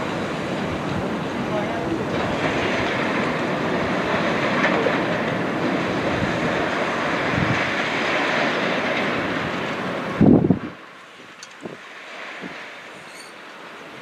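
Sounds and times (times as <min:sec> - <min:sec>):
train wheels on rail: 0:00.0 - 0:14.0.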